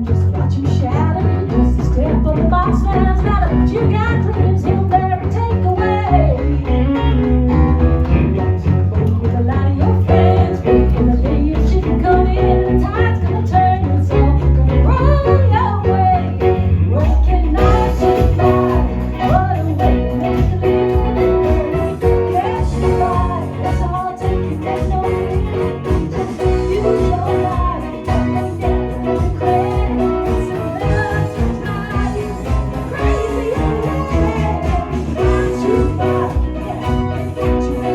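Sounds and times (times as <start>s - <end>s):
bass: 0.0s - 37.9s
guitar: 0.0s - 37.9s
live band playing: 0.0s - 37.9s.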